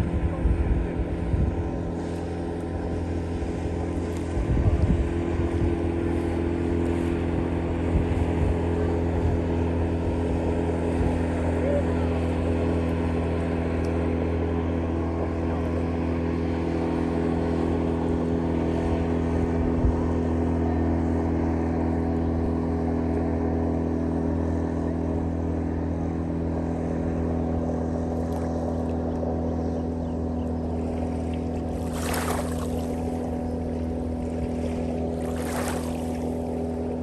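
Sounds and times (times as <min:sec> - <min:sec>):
motorboat engine droning: 0:00.0 - 0:37.0.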